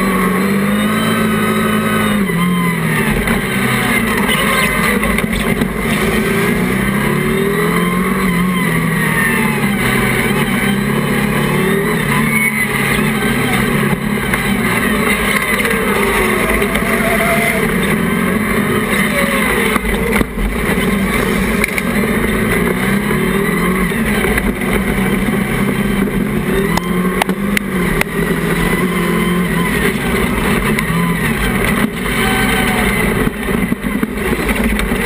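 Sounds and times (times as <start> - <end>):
race buggy engines revving: 0.0 - 35.0.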